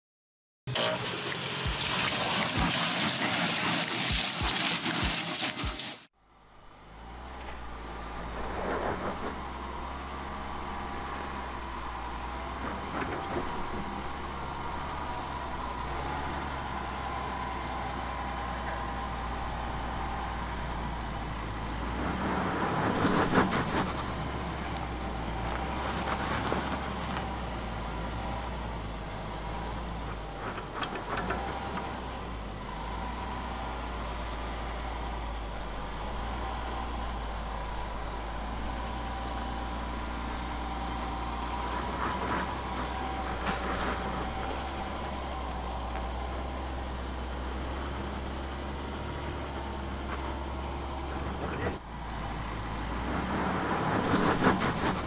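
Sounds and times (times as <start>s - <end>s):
engine running under load: 0.7s - 55.0s.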